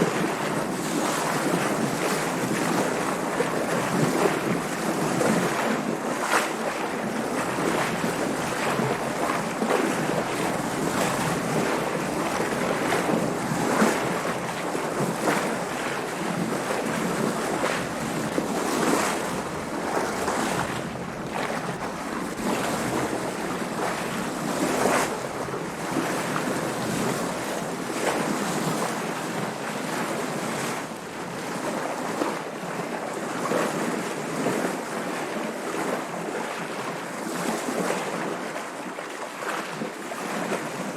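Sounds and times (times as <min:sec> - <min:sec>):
water splashing against boat hull: 0:00.0 - 0:33.0
wind: 0:00.0 - 0:40.9.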